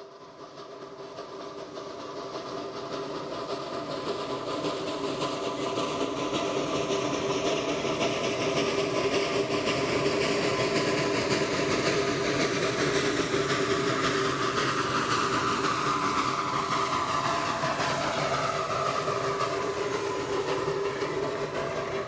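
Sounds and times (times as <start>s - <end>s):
train running: 0.0s - 22.0s.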